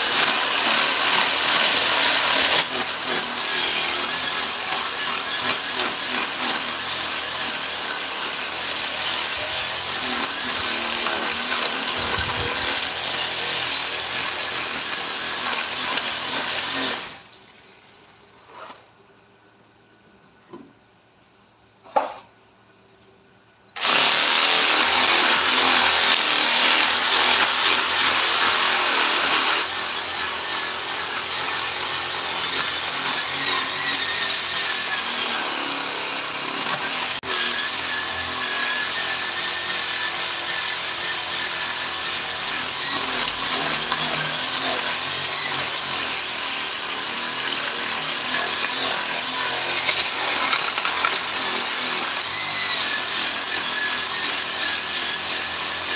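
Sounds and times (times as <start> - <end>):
power tool cutting wood: 0.0 - 17.7, 23.8 - 55.9.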